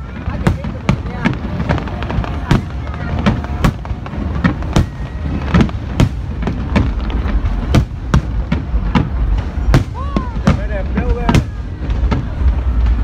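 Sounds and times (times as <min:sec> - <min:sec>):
continuous low rumble: 0:00.0 - 0:13.0
fireworks bangs: 0:00.0 - 0:13.0.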